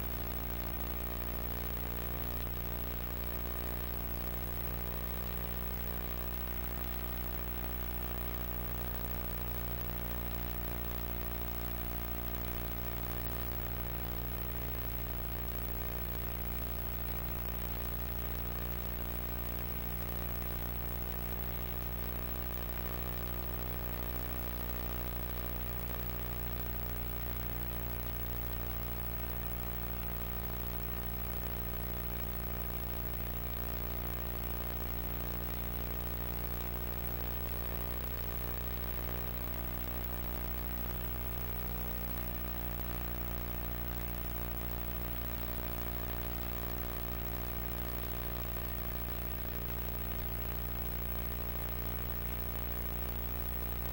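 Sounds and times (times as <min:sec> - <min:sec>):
electrical hum with hiss: 0:00.0 - 0:53.9.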